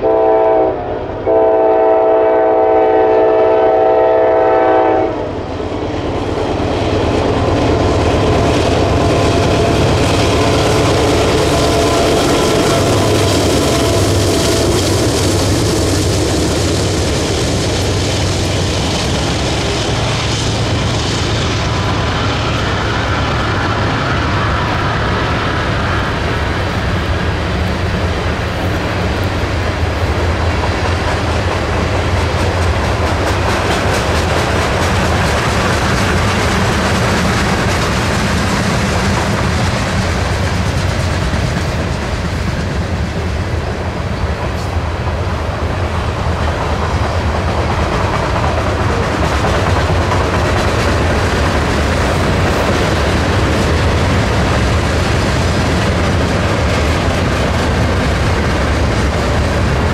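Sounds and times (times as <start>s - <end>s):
freight train wheels rumbling: 0.0s - 59.9s
clickety-clack over rail joints: 5.6s - 59.9s.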